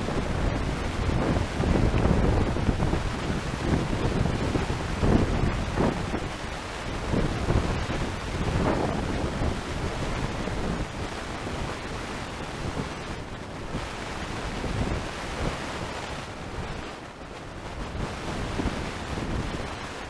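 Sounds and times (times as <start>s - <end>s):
wind blowing against microphone: 0.0s - 20.0s.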